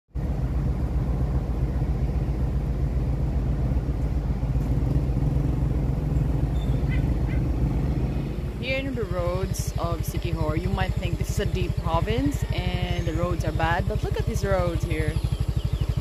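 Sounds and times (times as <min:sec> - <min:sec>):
motorbike engine droning: 0:00.2 - 0:16.0.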